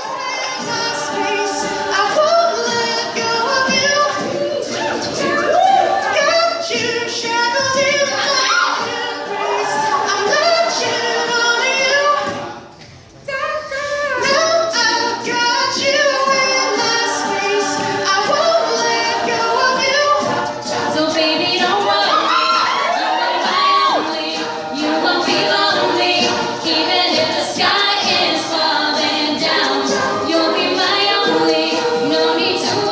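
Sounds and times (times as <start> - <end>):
a cappella group singing: 0.0 - 32.9.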